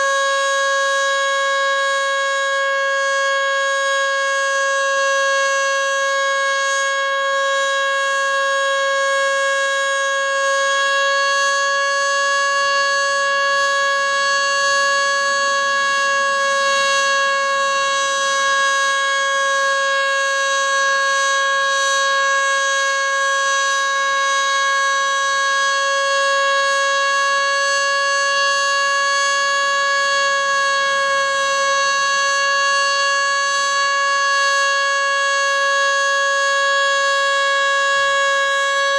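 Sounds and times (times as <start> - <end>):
single-tone warning siren wailing: 0.0 - 38.9.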